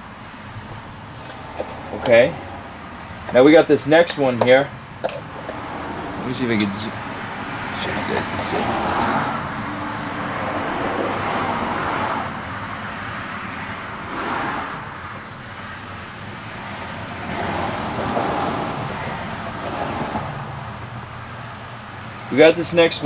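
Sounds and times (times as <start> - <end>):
road traffic rush: 0.0 - 23.0.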